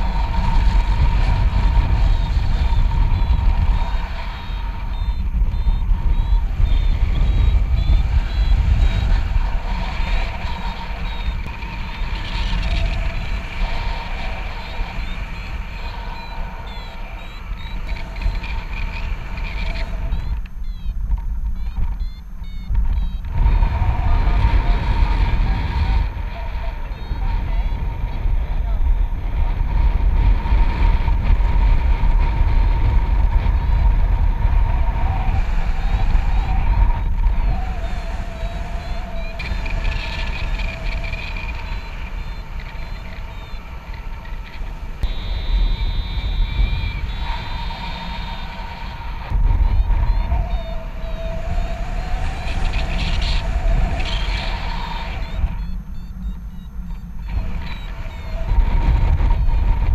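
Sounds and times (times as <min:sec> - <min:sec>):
faint steady high tone: 0:00.0 - 0:30.3, 0:32.3 - 0:59.9
variometer beeping: 0:00.0 - 0:59.9
wind buffeting microphone: 0:00.0 - 0:59.9.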